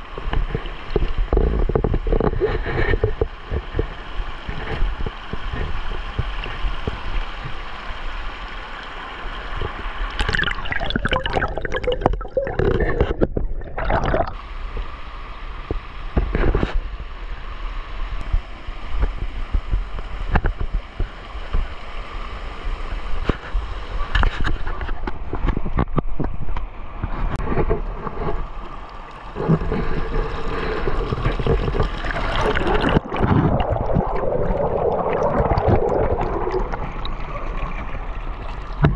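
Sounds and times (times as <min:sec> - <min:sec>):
creek water gurgling: 0:00.0 - 0:25.8, 0:27.4 - 0:38.9.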